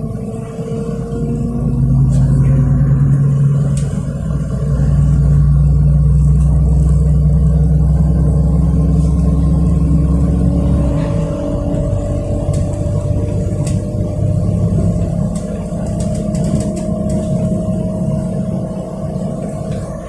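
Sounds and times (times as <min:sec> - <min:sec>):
bus engine hum: 0:00.0 - 0:20.0.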